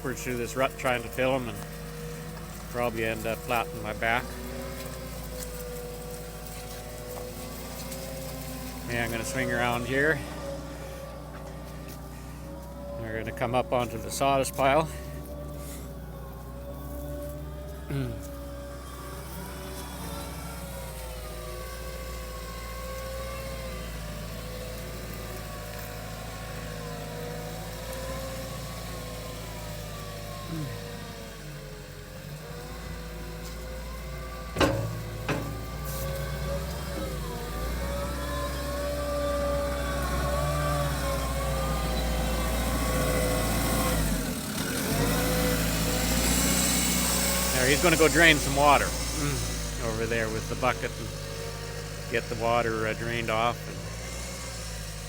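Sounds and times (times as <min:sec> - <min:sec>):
wheel loader diesel engine: 0:00.0 - 0:55.0.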